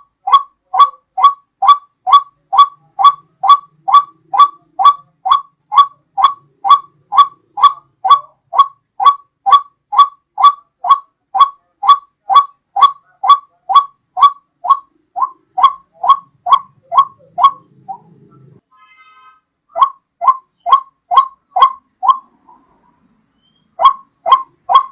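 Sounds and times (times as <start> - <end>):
waterhen call: 0.0 - 18.5, 19.7 - 22.8, 23.4 - 24.9.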